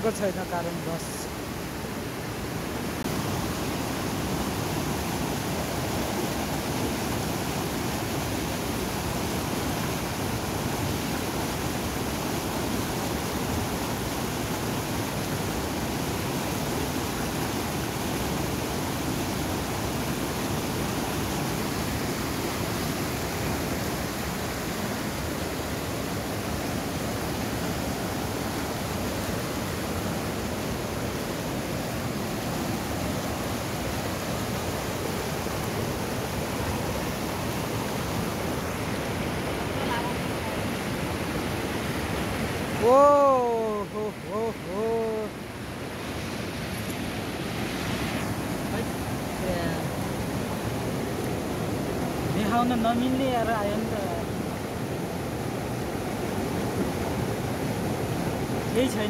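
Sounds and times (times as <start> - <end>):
mountain stream rushing over rocks: 0.0 - 59.0.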